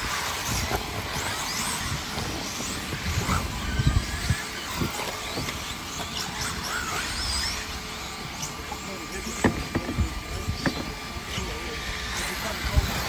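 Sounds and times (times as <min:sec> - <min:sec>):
electric motor whines: 0:00.0 - 0:13.0
steady background noise: 0:00.0 - 0:13.0.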